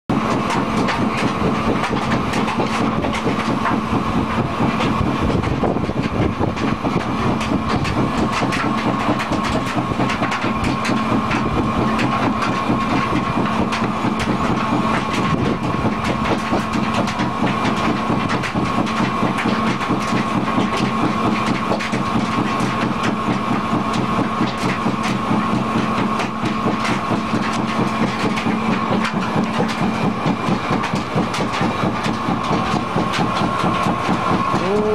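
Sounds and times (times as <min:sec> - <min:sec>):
briquette press machine hum: 0:00.1 - 0:34.9
rapid machine clatter: 0:00.1 - 0:34.9.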